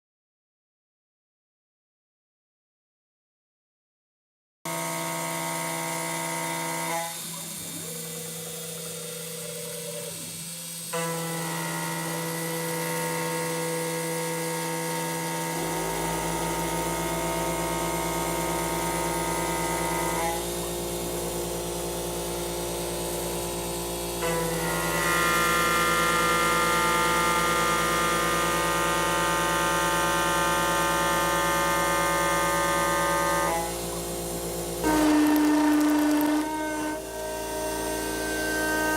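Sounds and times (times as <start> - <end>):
router spindle whine milling metal: 4.7 - 38.9.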